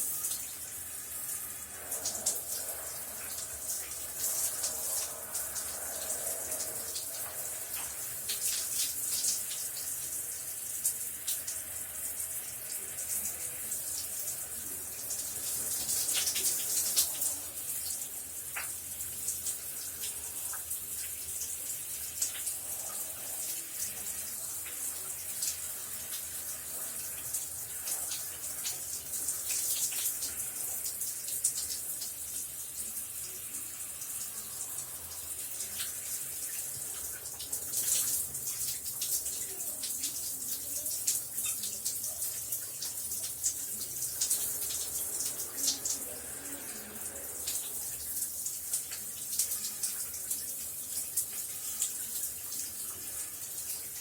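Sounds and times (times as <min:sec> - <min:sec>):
shower water spraying: 0:00.0 - 0:54.0.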